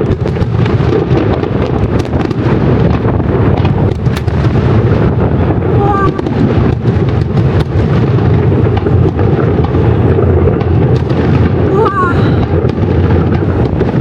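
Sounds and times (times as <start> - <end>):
fireworks booming and cracking: 0.0 - 14.0.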